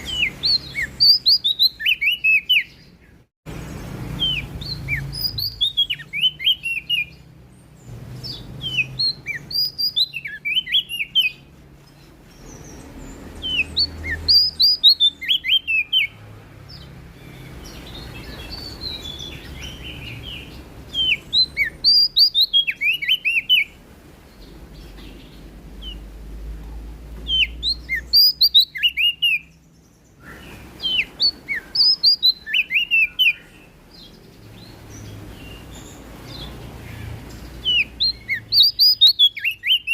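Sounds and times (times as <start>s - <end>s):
warbler singing high chirps: 0.0s - 39.9s.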